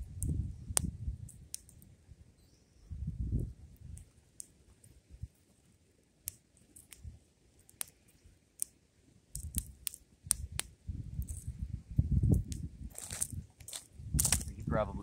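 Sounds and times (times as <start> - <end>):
fire crackling and popping: 0.0 - 2.1, 2.9 - 15.0.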